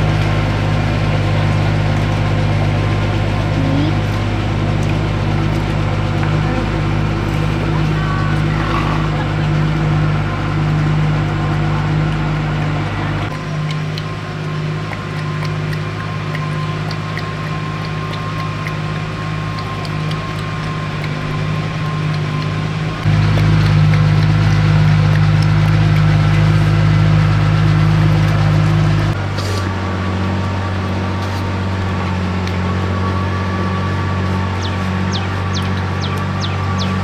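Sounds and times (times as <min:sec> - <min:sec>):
engine humming: 0:00.0 - 0:37.0.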